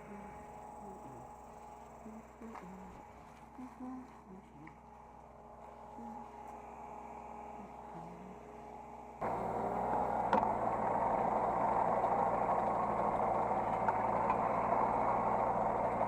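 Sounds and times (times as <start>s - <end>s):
diesel engine running: 0.0s - 16.0s
low hum: 0.0s - 16.0s.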